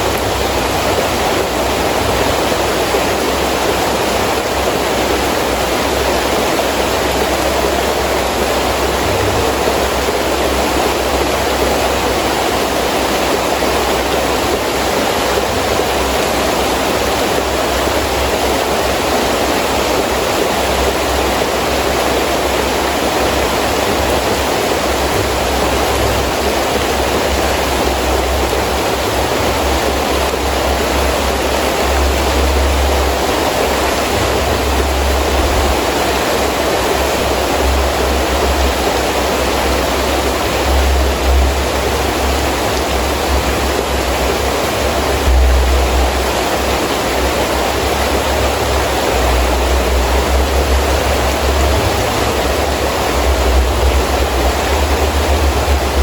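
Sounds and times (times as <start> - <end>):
heavy rain falling: 0.0 - 56.0
low wind rumble: 0.0 - 56.0.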